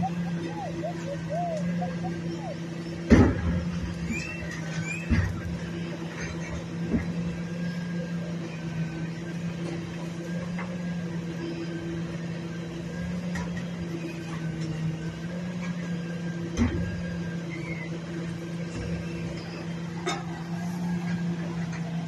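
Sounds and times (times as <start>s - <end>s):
refuse truck engine humming: 0.0s - 22.0s.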